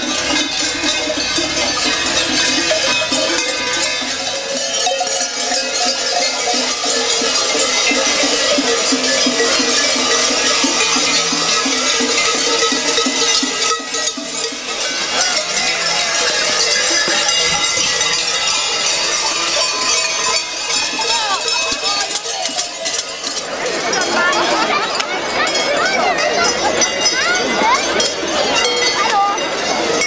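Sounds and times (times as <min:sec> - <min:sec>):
large cowbells clanging: 0:00.0 - 0:30.0.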